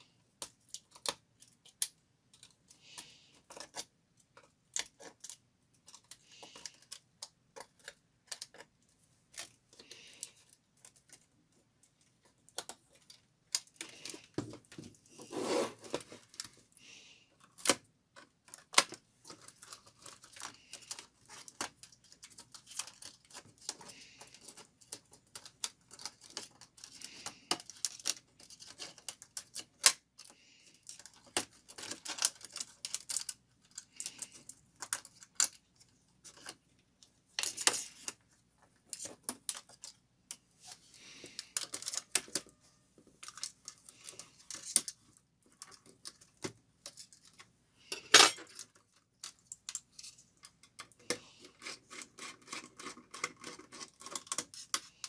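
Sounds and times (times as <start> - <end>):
laptop parts clicking and scraping: 0.2 - 55.0.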